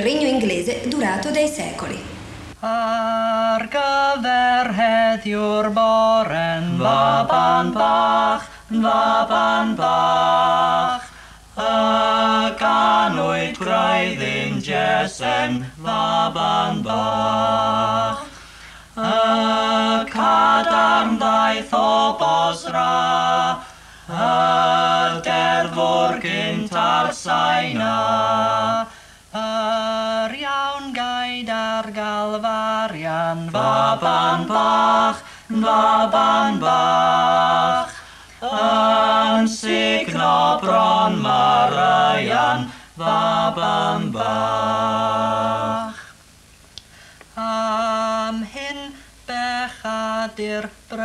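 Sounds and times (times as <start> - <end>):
men singing a hymn in harmony: 2.6 - 46.1, 47.3 - 51.0.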